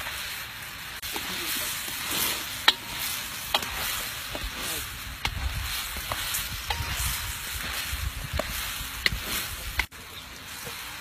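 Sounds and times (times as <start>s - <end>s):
masala sizzling in a pot: 0.0s - 11.0s.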